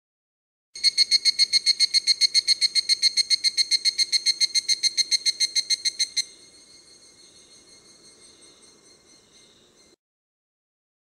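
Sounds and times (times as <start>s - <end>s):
cicada calling in ringing pulses: 0.8s - 10.0s
faint steady ringing: 0.8s - 10.0s.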